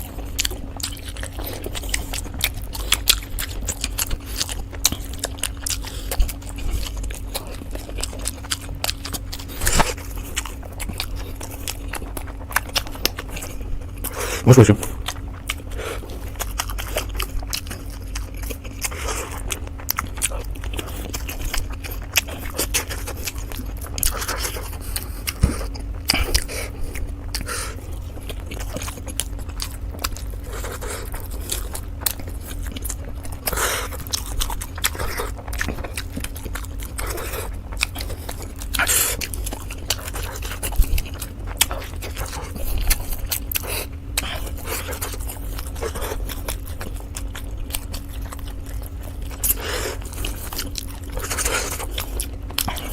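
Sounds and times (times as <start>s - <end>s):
person chewing: 0.0s - 52.9s
steady low hum: 0.0s - 52.9s.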